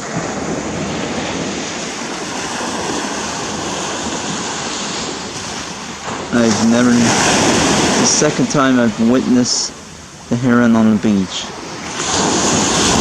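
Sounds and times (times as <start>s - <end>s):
ocean surf washing: 0.0s - 13.0s
wind on microphone: 0.0s - 13.0s.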